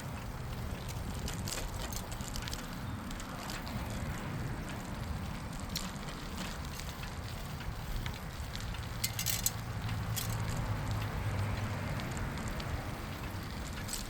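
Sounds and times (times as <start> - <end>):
tyre and wind noise: 0.0 - 14.0.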